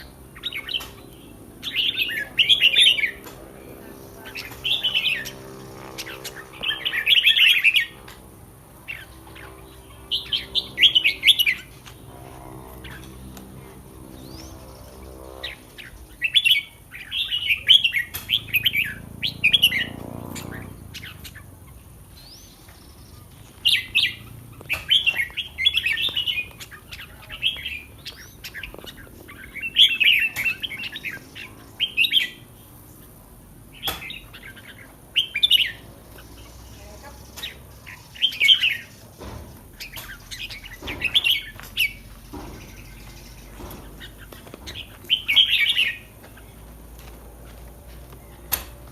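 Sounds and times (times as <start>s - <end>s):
bird singing warbling phrases: 0.0s - 46.8s.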